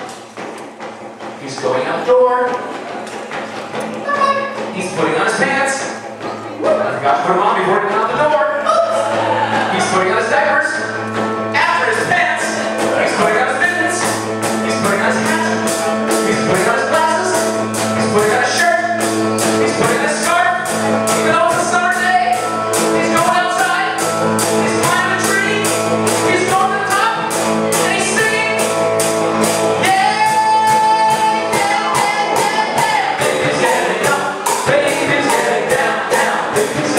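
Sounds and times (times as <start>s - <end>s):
live band playing: 0.0s - 36.9s.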